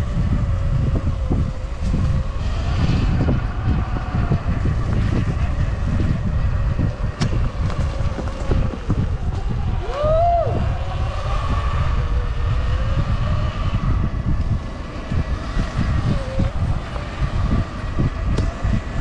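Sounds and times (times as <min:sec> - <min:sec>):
electric motorbike motor whining: 0:00.0 - 0:19.0
wind rumble on microphone: 0:00.0 - 0:19.0.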